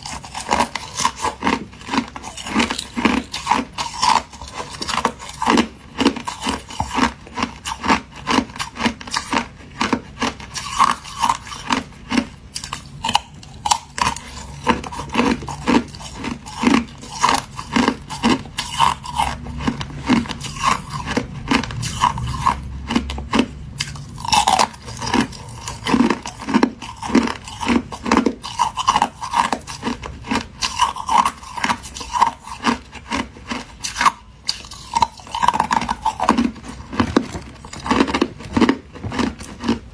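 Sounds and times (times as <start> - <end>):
ice being bitten and crunched: 0.0 - 39.9.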